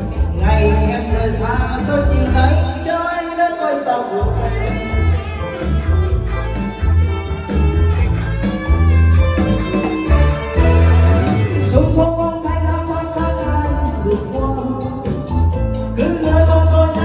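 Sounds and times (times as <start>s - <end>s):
heavy beating bass line: 0.0s - 3.0s, 4.2s - 17.0s
karaoke backing music with guitar: 0.0s - 17.0s.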